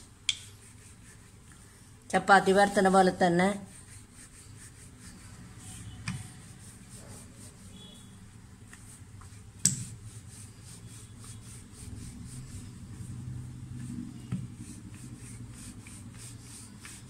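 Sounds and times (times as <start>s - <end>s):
rolling pin rubbing on dough: 0.0s - 17.0s.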